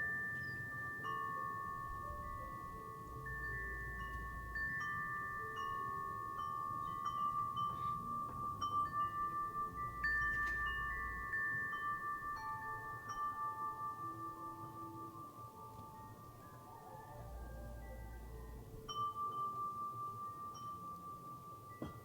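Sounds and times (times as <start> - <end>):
wind chime ringing: 0.0 - 22.0.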